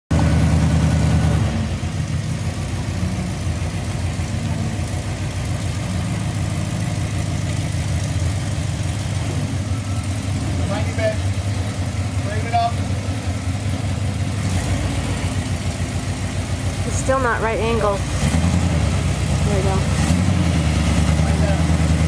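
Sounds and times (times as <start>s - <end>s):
vehicle engine idling: 0.1s - 22.0s.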